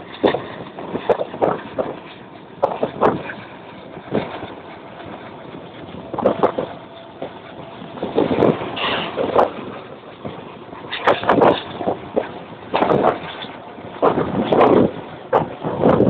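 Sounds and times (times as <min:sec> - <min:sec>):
train clanks and knocks: 0:00.0 - 0:16.0
train rumbling: 0:00.0 - 0:16.0.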